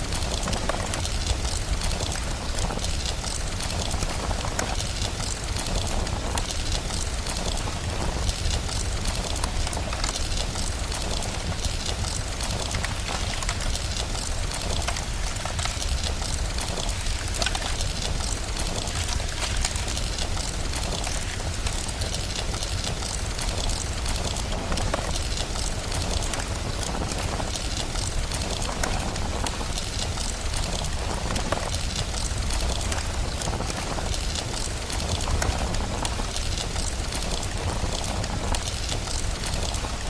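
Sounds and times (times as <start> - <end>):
steady rain hissing: 0.0 - 40.0
wood fire crackling: 0.0 - 40.0.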